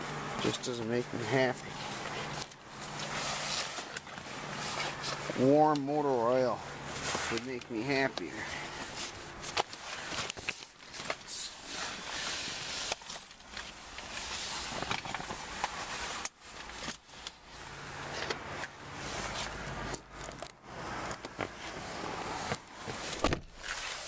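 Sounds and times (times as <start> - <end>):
rustling and handling noise: 0.0 - 24.0.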